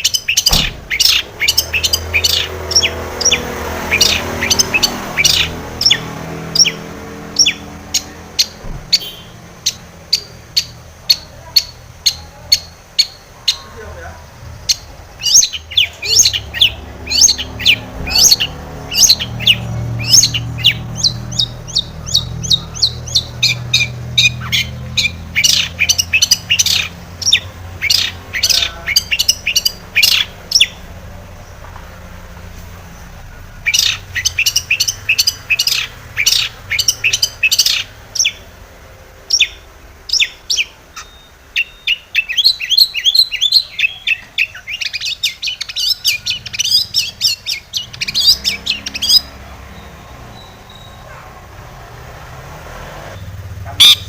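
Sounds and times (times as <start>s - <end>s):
shrike singing sharp chirps: 0.0s - 31.4s, 32.9s - 38.5s, 39.3s - 51.1s.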